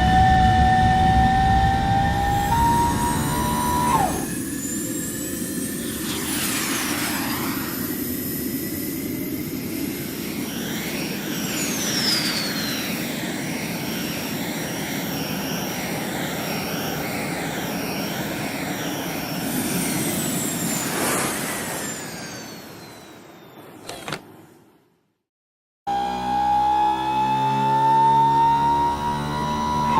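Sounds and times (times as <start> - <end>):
jet engine whine: 0.0 - 24.7, 25.9 - 29.9.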